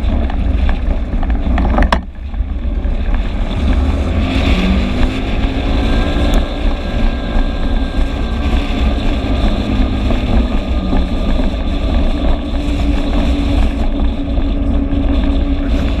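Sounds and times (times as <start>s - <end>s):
scooter engine running: 0.0s - 16.0s
wind rumble on microphone: 0.0s - 16.0s.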